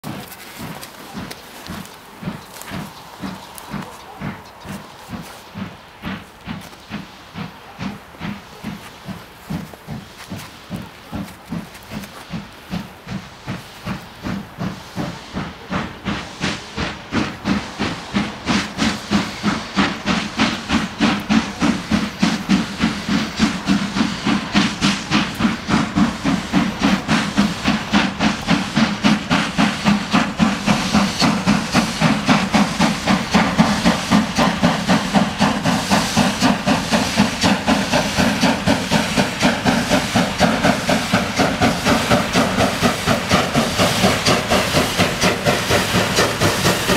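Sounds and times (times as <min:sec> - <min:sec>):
steam hissing: 0:00.0 - 0:46.9
steam locomotive exhaust beats: 0:00.0 - 0:46.9.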